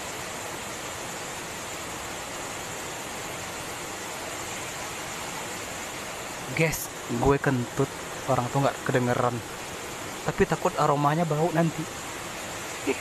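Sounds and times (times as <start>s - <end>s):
waterfall rushing into a pool: 0.0s - 13.0s.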